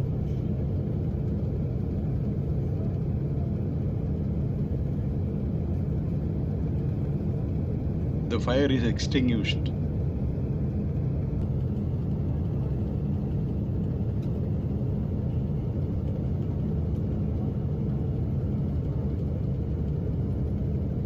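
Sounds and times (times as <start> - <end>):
low rumble inside airplane cabin: 0.0 - 21.0.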